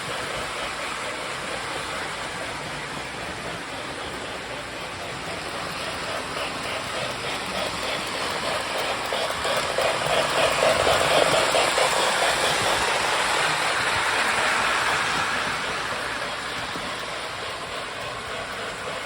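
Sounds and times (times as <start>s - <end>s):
toy train hissing chuff: 0.0s - 19.0s
toy train running noise: 0.0s - 19.0s.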